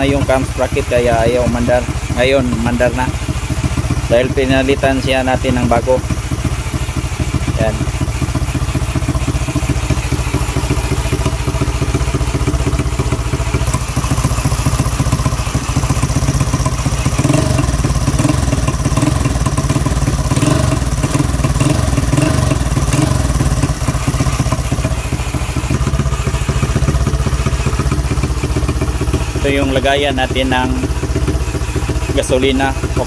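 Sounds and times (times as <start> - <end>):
scooter engine idling: 0.0 - 33.0.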